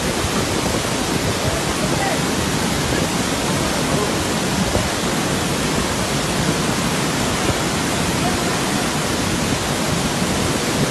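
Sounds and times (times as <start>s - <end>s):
waterfall rushing over rocks: 0.0s - 10.9s.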